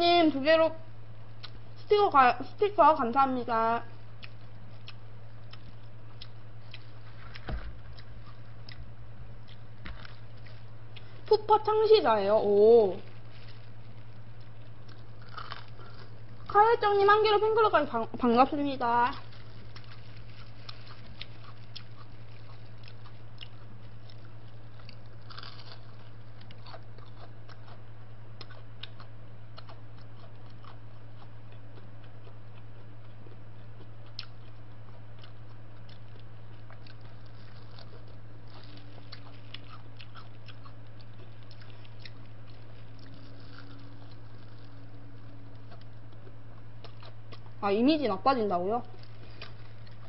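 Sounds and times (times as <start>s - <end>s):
steady low hum: 0.0s - 50.0s
chewing crispy fried chicken: 1.3s - 50.0s.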